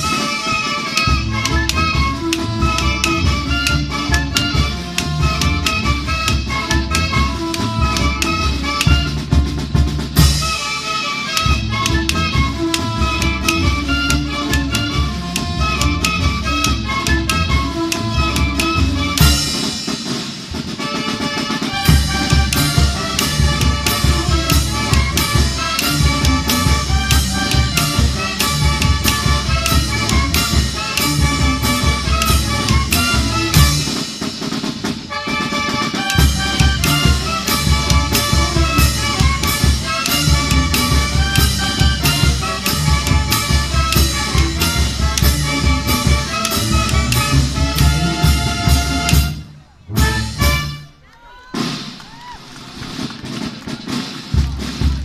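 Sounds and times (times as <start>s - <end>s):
brass band with trumpets and drums: 0.0s - 55.0s.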